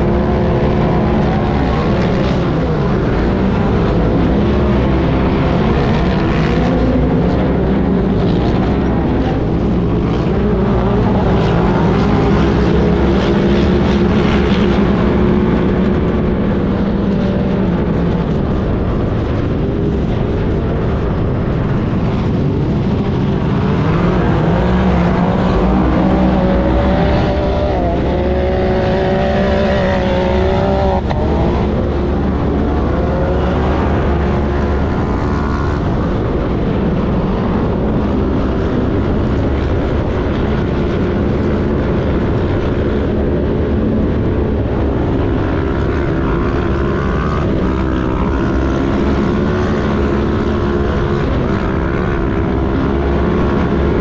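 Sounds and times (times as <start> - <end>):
vehicle engine running hard: 0.0 - 54.0.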